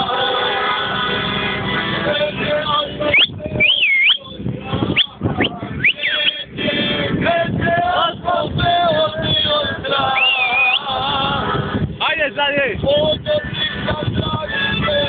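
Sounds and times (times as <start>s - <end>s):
men singing: 0.0s - 11.8s, 12.8s - 15.0s.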